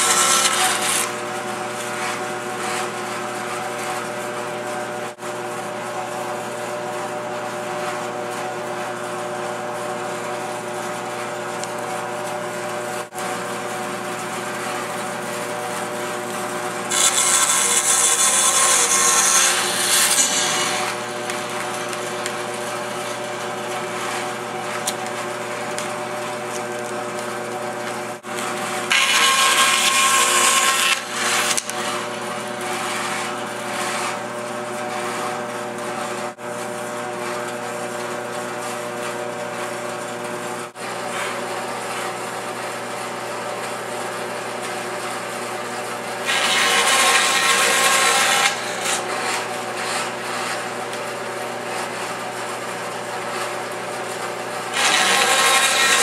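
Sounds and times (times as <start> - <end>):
band saw cutting wood: 0.0 - 5.0, 13.0 - 40.1, 40.7 - 56.0
band saw running: 0.0 - 5.2, 7.0 - 56.0.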